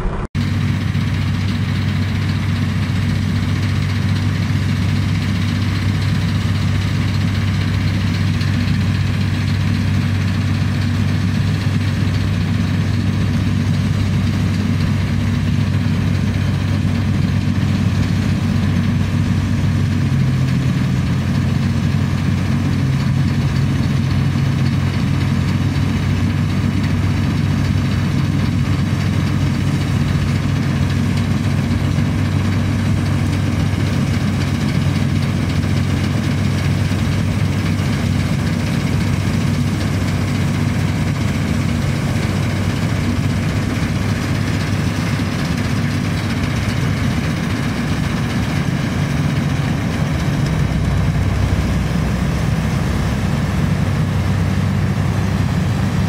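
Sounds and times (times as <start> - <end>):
combine harvester engine: 0.0 - 56.0.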